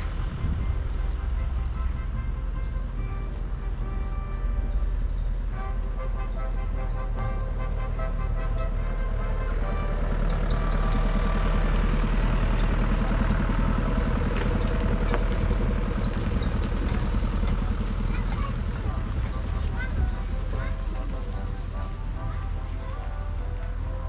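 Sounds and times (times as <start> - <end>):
road train engine rumbling: 0.0 - 24.0.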